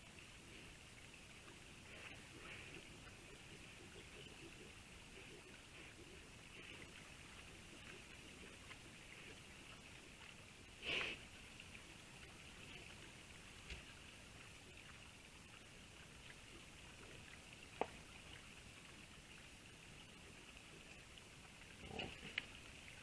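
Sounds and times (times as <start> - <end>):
faint steady hiss: 0.0 - 23.0
wild boar rooting: 0.0 - 23.0.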